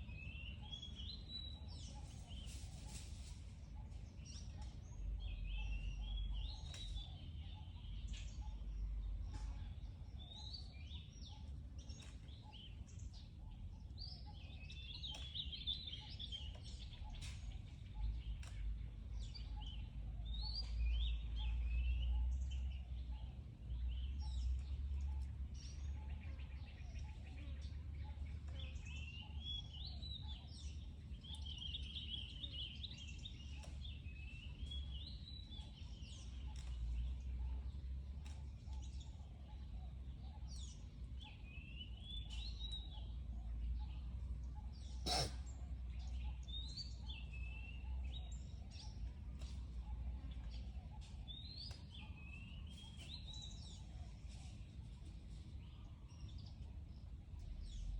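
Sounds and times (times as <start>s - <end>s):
birds chirping and calling: 0.0s - 57.9s.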